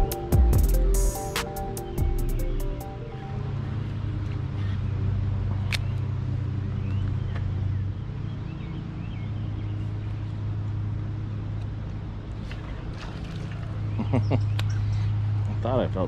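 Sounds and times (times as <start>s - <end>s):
motor rumbling: 0.0s - 16.0s.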